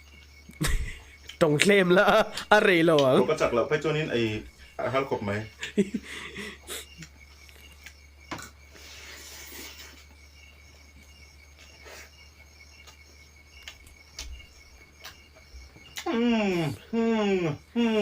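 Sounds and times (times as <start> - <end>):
faint insect-like chirring: 0.0 - 18.0.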